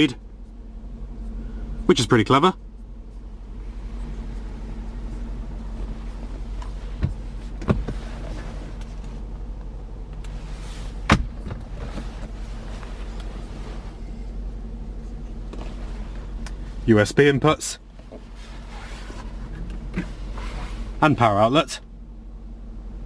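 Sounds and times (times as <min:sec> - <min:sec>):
low hum in car cabin: 0:00.0 - 0:23.0.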